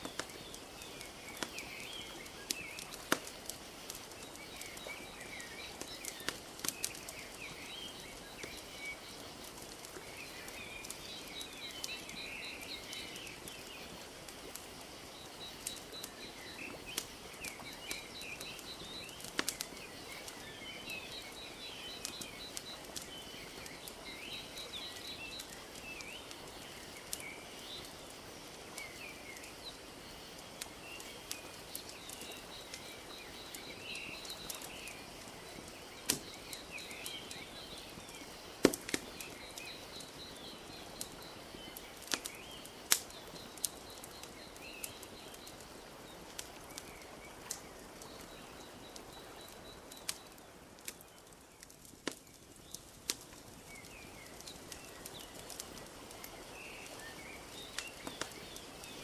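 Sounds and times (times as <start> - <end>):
small birds chirping: 0.0 - 59.0
wood fire crackling: 0.0 - 59.0.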